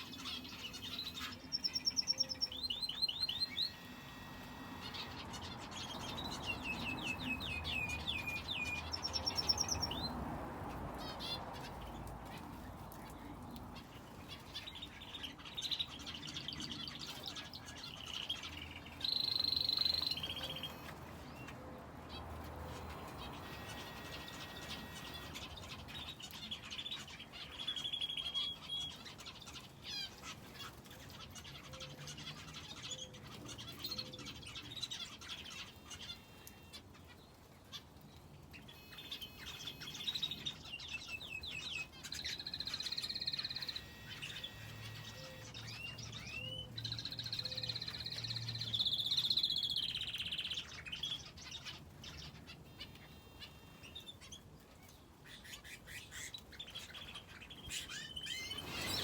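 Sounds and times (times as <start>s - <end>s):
finches chirping: 0.0s - 10.2s, 13.8s - 20.9s, 22.6s - 36.8s, 38.6s - 54.5s, 55.2s - 59.0s
canary trilling: 0.0s - 12.9s, 13.7s - 59.0s.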